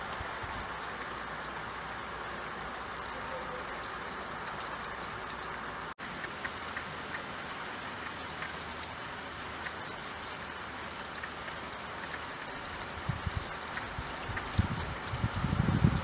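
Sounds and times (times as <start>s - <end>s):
raindrops tapping: 0.0s - 16.0s
steady rain: 0.0s - 16.0s.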